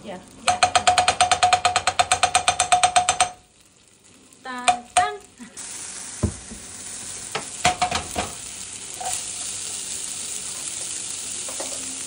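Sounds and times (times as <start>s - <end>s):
corn sizzling in a frying pan: 0.0s - 12.0s.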